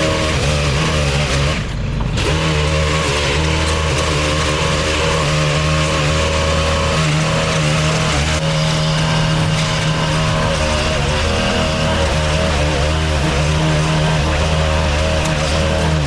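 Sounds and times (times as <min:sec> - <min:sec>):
hedge trimmer motor cutting: 0:00.0 - 0:16.0
string trimmer edging: 0:00.0 - 0:16.0.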